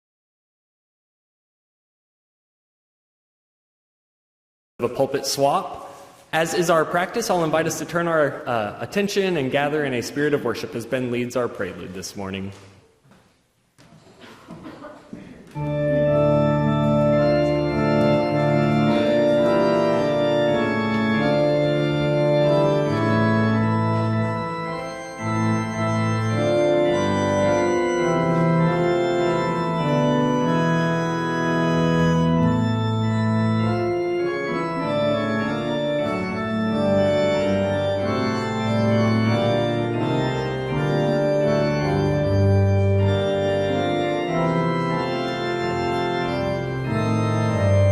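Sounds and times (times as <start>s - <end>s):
church organ chords: 4.8s - 12.4s, 15.4s - 47.9s.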